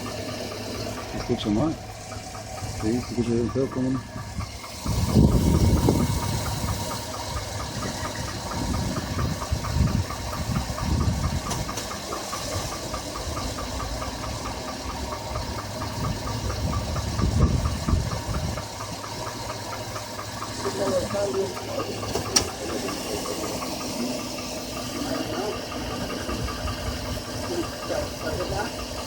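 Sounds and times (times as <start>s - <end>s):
engine idling: 0.0s - 29.0s
fast ticking engine knock: 0.0s - 29.0s.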